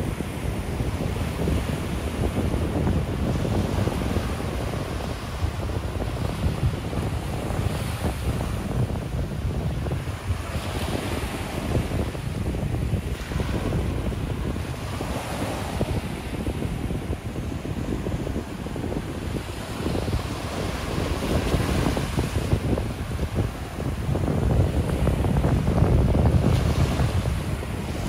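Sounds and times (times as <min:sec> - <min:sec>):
ocean surf breaking: 0:00.0 - 0:28.0
wind rumble on microphone: 0:00.0 - 0:28.0.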